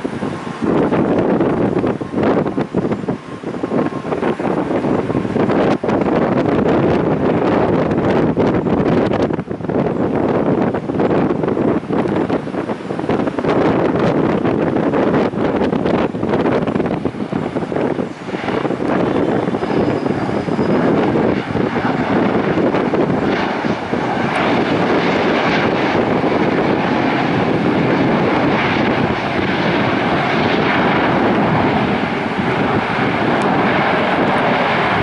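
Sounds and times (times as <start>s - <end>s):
airplane engines roaring: 0.0s - 35.0s
wind buffeting microphone: 0.0s - 35.0s.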